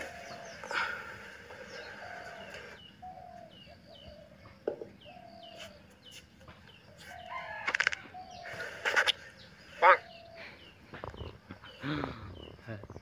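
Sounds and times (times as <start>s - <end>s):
chickens clucking: 0.0s - 13.0s
small birds chirping: 0.0s - 13.0s.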